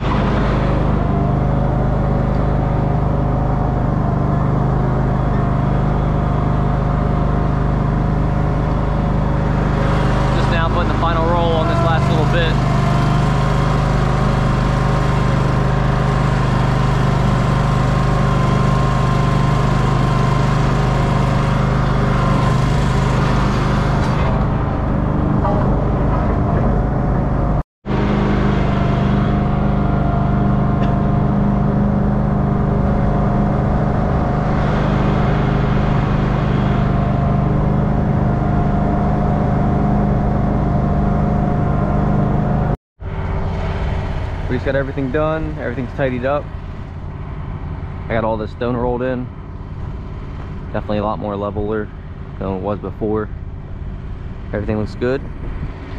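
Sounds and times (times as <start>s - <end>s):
ride-on roller engine running: 0.0s - 55.9s.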